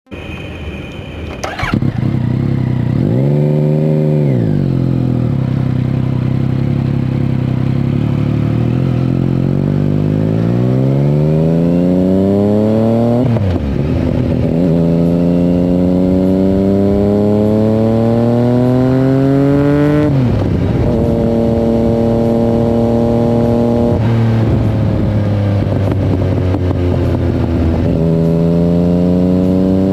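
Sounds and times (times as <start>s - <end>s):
motorcycle engine revving: 1.4s - 29.9s.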